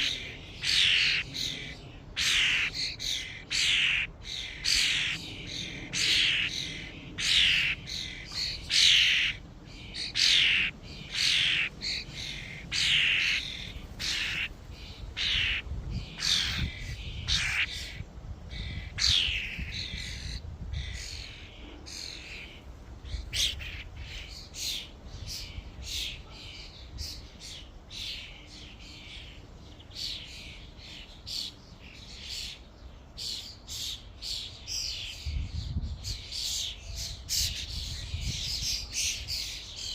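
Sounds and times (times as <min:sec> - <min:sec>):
starlings squawking: 0:00.0 - 0:35.2.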